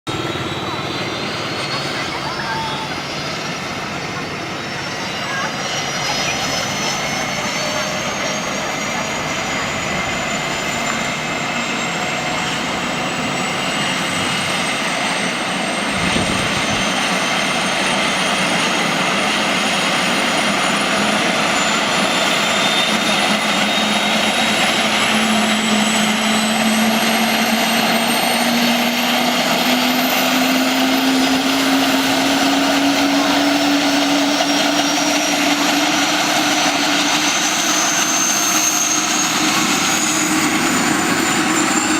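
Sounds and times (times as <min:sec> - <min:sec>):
helicopter turbine whine and rotor: 0:00.1 - 0:41.9.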